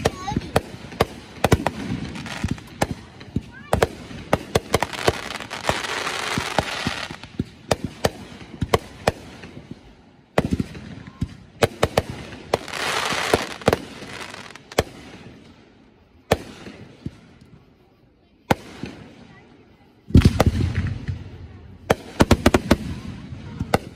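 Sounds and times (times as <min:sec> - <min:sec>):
fireworks bursting with sharp bangs: 0:00.0 - 0:23.9
fireworks crackling: 0:00.0 - 0:23.9.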